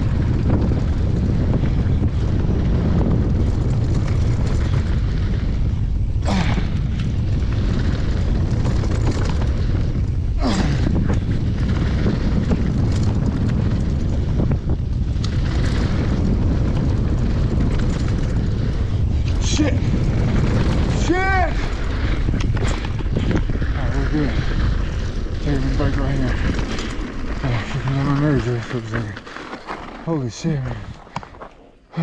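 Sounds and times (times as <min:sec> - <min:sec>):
bike clattering: 0:00.0 - 0:30.3
bike tyres rolling on dirt: 0:00.0 - 0:32.0
wind buffeting microphone: 0:00.0 - 0:32.0.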